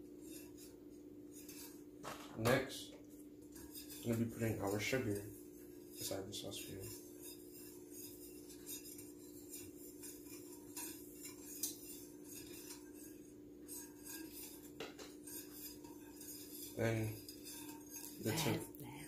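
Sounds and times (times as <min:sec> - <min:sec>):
whisk scraping a saucepan: 0:00.0 - 0:18.8
steady low hum: 0:00.0 - 0:19.0.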